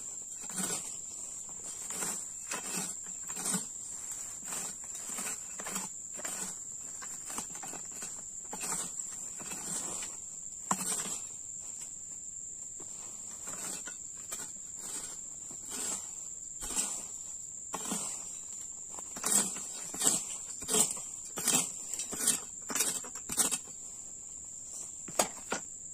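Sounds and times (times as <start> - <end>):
weeding tool scraping soil: 0.0 - 25.6.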